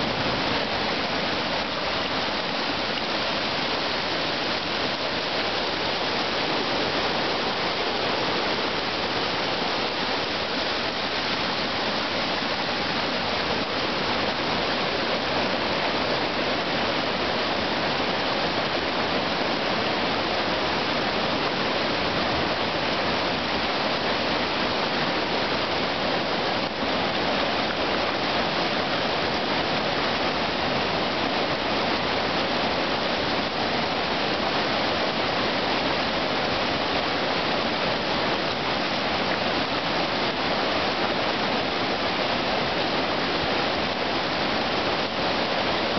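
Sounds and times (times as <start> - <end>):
whitewater rapids rushing: 0.0 - 45.9.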